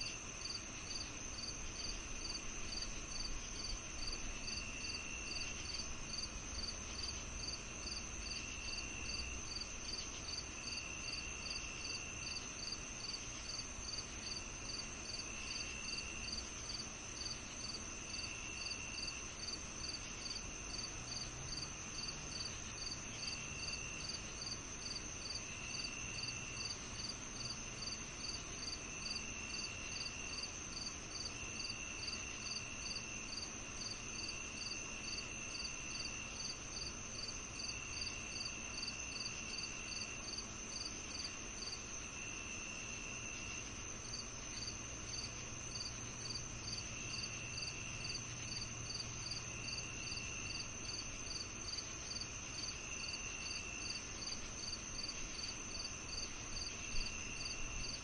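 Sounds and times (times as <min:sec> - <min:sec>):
lower insect trill: 0:00.0 - 0:58.0
regular cricket chirp: 0:00.0 - 0:58.0
steady high insect trill: 0:00.0 - 0:58.0.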